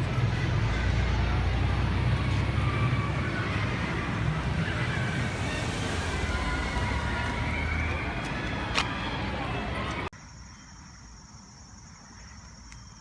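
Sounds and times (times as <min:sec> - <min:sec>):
city street traffic rumble: 0:00.0 - 0:13.0.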